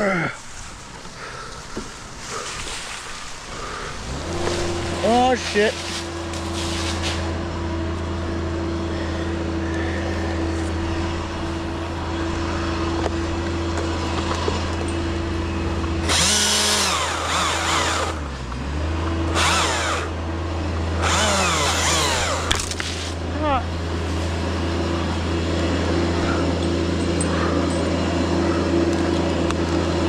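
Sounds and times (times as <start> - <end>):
chainsaw idling and revving: 1.2 - 30.0.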